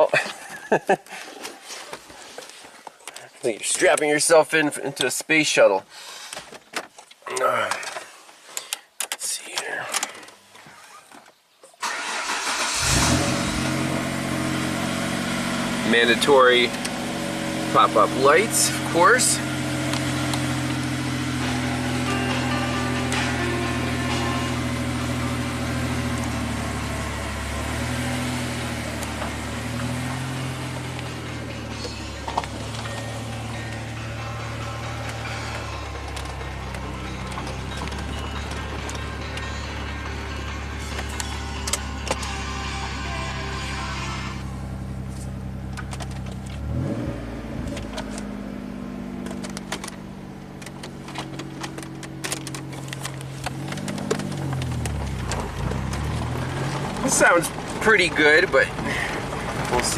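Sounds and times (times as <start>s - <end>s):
car engine running: 11.8s - 59.9s.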